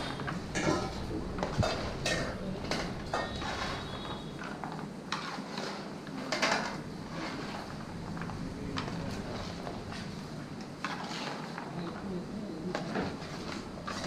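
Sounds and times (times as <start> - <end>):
metal cookware clattering and scraping: 0.0 - 10.1, 10.8 - 11.7, 12.6 - 14.0.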